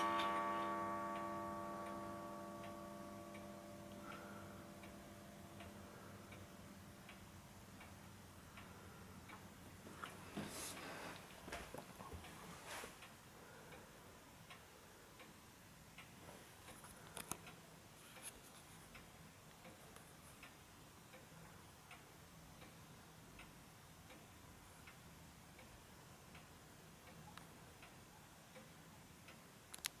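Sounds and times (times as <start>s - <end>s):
wall clock ticking faintly: 0.0s - 30.0s.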